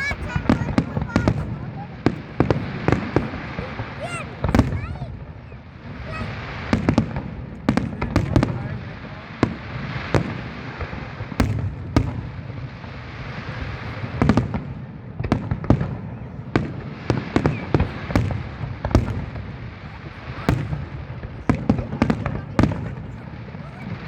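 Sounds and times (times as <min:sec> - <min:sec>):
fireworks bangs: 0:00.0 - 0:24.0
fireworks crackle and rumble: 0:00.0 - 0:24.0.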